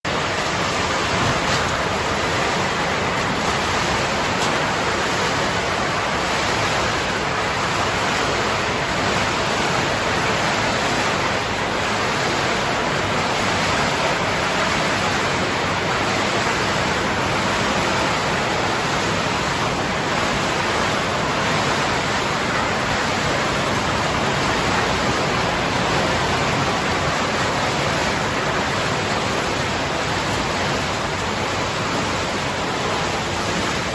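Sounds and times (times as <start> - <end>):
bottle washing machinery rushing: 0.0 - 33.9.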